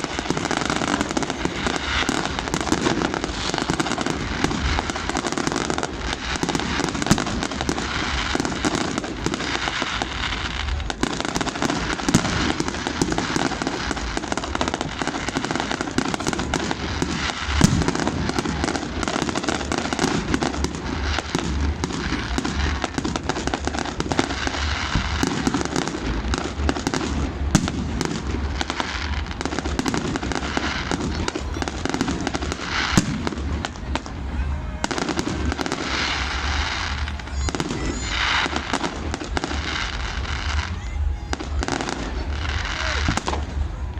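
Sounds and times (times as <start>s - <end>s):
firework crackle: 0.0s - 43.9s
sharp firework bangs: 0.0s - 43.9s.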